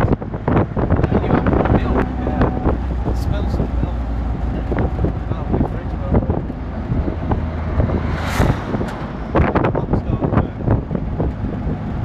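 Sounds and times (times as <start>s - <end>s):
jeep engine running: 0.0s - 12.0s
truck passing by: 0.0s - 12.0s
wind and road noise: 0.0s - 12.0s.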